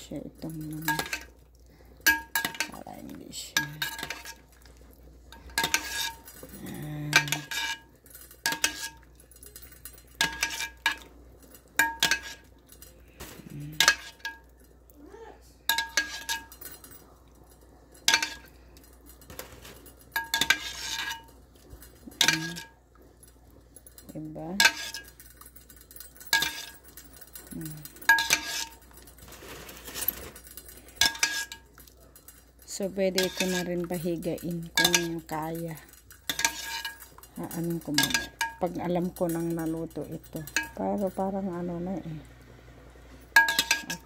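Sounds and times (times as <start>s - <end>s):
metal cookware clinking: 0.0s - 42.3s, 43.0s - 44.0s.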